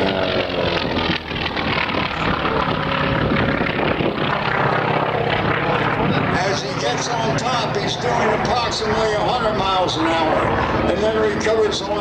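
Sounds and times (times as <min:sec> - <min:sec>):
propeller airplane engine: 0:00.0 - 0:12.0.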